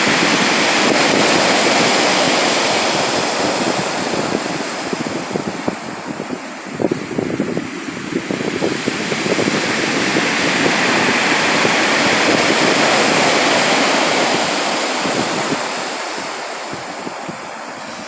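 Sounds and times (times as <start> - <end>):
sea wave breaking and washing in: 0.0 - 18.0.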